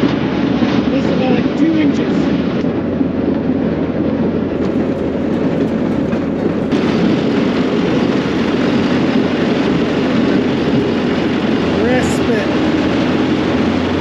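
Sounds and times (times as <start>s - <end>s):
rail cart rumbling on rails: 2.5s - 14.0s.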